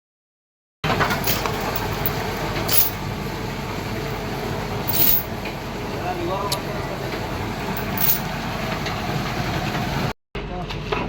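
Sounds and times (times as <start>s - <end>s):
loud steady background noise: 0.9s - 11.0s.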